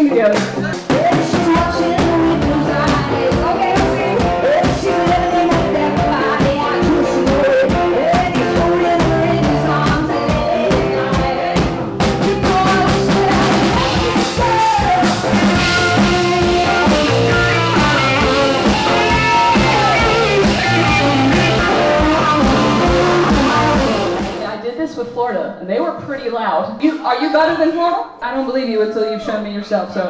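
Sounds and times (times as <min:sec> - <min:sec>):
electric guitar: 0:00.0 - 0:24.5
person singing: 0:00.0 - 0:24.5
keyboard: 0:00.0 - 0:24.6
drums: 0:00.0 - 0:25.2.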